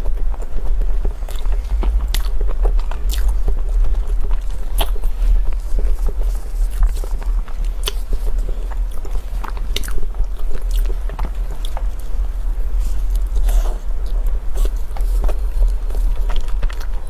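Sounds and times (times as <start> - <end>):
chewing crunchy food: 0.0 - 17.0
steady low hum: 0.0 - 17.0.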